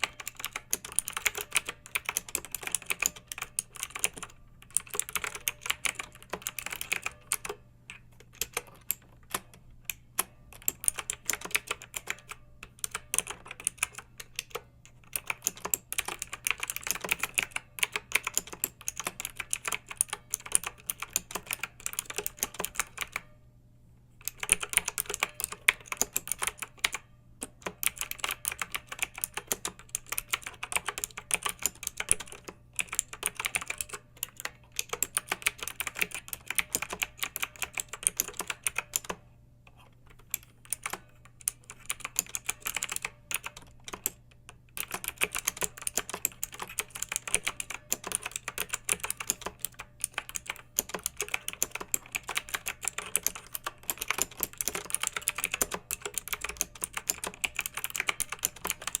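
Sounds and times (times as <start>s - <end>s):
mechanical keyboard typing: 0.0s - 23.4s, 24.2s - 59.0s
faint low hum: 0.0s - 59.0s.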